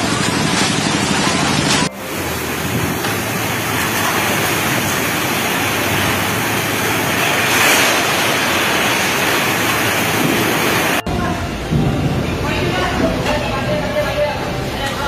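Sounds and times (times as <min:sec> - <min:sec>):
torrential rain and storm wind: 0:00.0 - 0:13.3.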